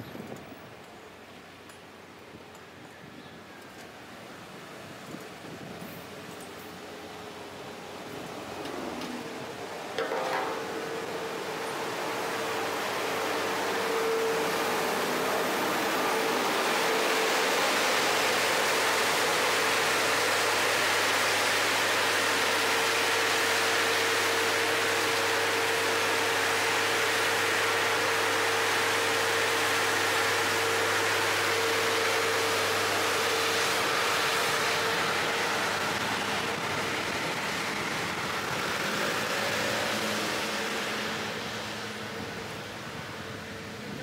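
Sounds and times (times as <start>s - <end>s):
vehicle road and wind noise: 0.0s - 44.0s
low engine hum: 4.9s - 44.0s.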